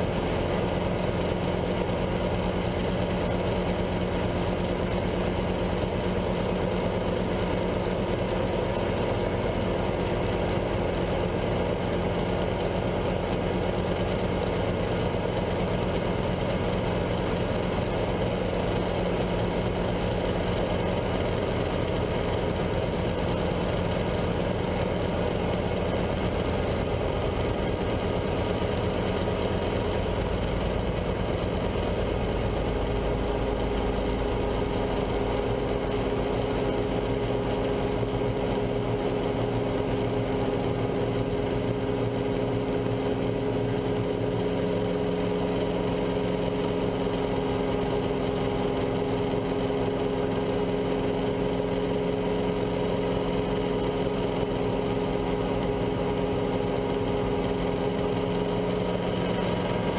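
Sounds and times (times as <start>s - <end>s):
helicopter engine and rotors: 0.0s - 59.9s.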